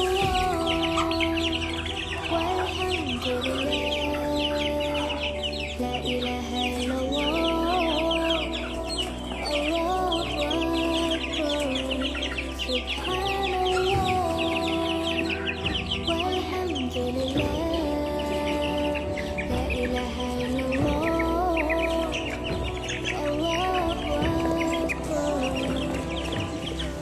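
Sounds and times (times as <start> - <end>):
birds chirping rapidly: 0.0 - 27.0
slow background music: 0.0 - 27.0.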